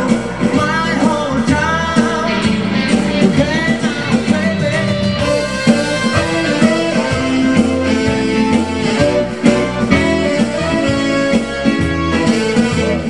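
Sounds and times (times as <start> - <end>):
band playing instrumental rock: 0.0 - 13.0
electric guitar: 0.0 - 13.0.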